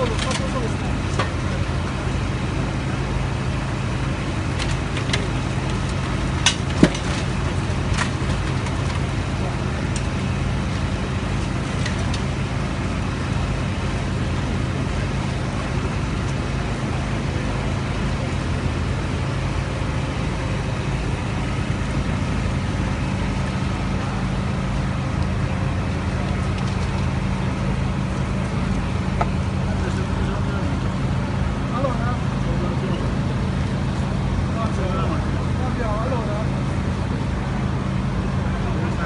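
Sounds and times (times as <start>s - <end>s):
excavator diesel engine humming: 0.0s - 39.0s.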